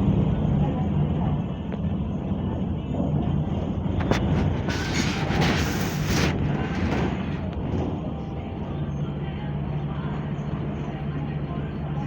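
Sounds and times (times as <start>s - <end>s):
diesel bus engine running: 0.0s - 12.0s.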